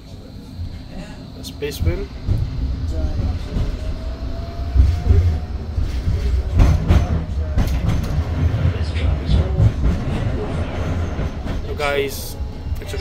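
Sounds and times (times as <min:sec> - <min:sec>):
tram rumbling on track: 0:00.0 - 0:13.0.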